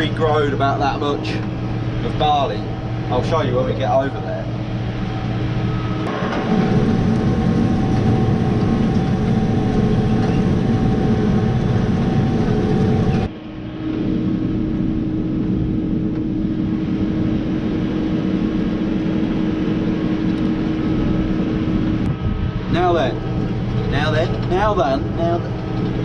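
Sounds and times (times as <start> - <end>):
tractor engine running under load: 0.0 - 13.5, 18.2 - 26.0.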